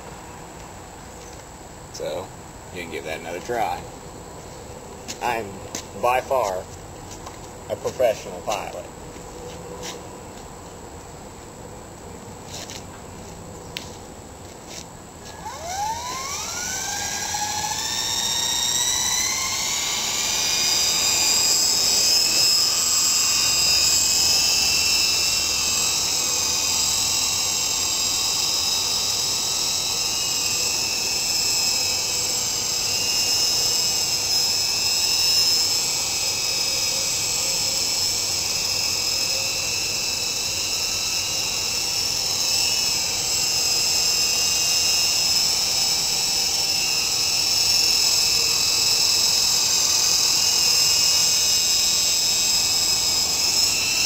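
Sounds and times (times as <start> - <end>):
rc helicopter motor whine: 2.0 - 10.5, 12.5 - 54.0.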